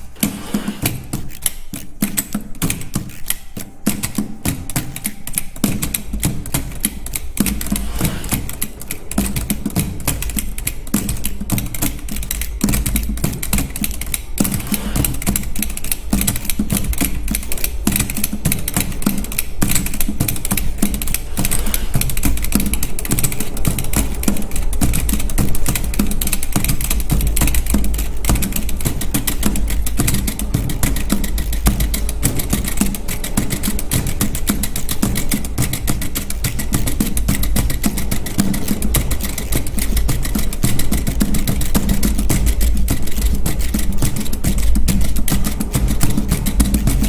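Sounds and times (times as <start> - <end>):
rapid mechanical clicking: 0.0 - 47.0
steady low hum: 0.0 - 47.0.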